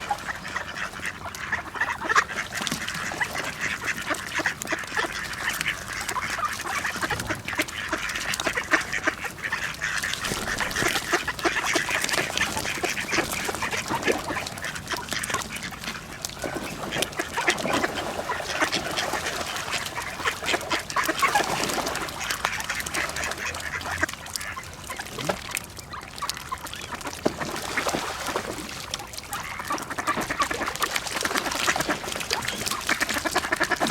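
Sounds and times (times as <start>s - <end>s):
flock of ducks quacking: 0.0s - 33.9s.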